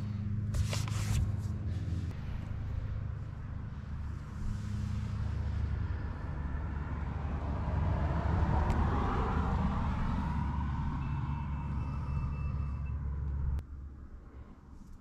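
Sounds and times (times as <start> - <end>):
vehicle passing: 0.0 - 13.6
motor vehicle rumble: 0.0 - 15.0.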